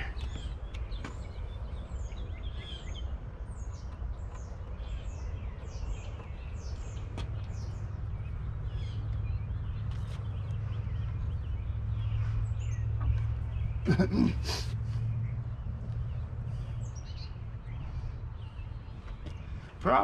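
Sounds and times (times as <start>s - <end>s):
birds chirping: 0.0s - 20.0s
low outdoor rumble: 0.0s - 20.0s.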